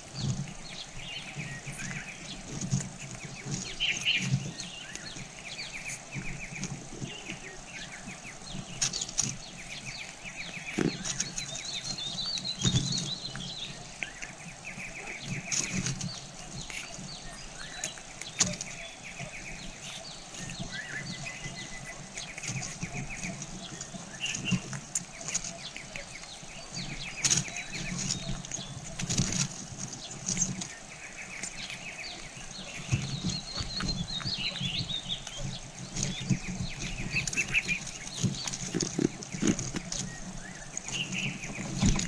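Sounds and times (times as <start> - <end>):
rustling and fluttering at nest: 0.0 - 42.0.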